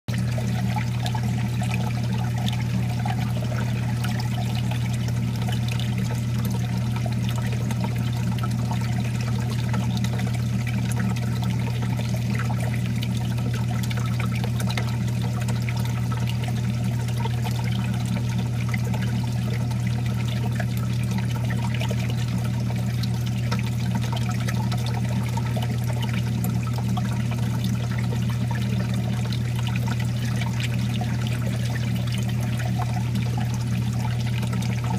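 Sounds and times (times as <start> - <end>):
steady low hum: 0.1 - 34.9
water trickling and splashing: 0.1 - 34.9.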